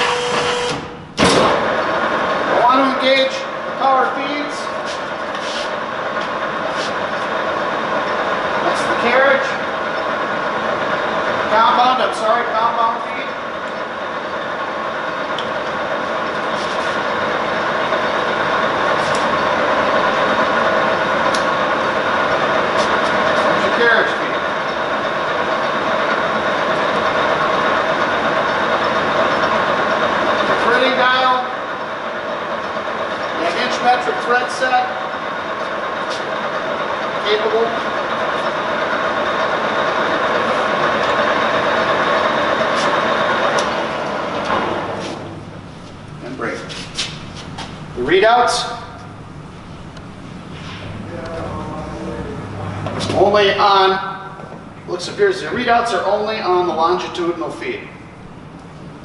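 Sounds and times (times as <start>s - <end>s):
lathe gear hum and whine: 0.0s - 59.0s.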